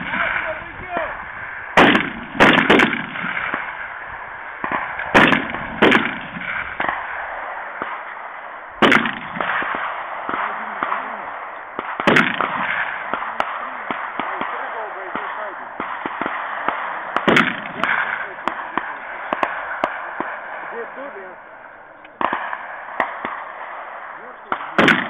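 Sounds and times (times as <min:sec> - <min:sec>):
gunshots with echo: 0:00.0 - 0:25.0.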